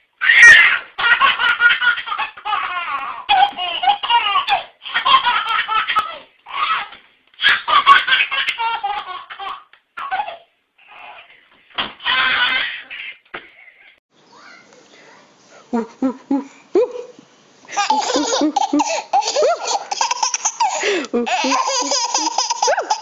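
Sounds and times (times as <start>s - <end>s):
baby laughing: 0.2s - 11.4s, 12.0s - 14.0s, 17.7s - 23.0s.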